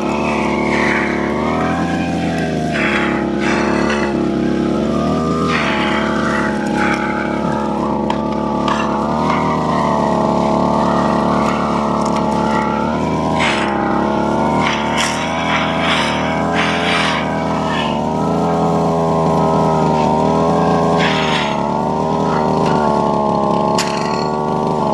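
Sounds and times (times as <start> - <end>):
brush cutter engine running: 0.0 - 24.9.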